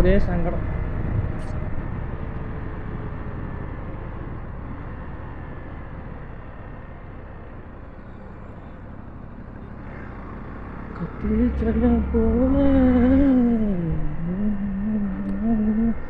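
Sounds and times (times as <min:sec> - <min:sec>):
vehicle and road rumble: 0:00.0 - 0:16.0.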